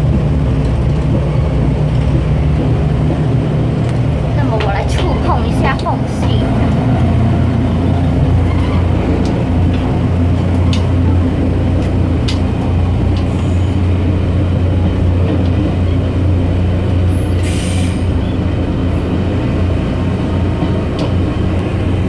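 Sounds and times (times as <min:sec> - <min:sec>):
diesel engine hum: 0:00.0 - 0:22.0.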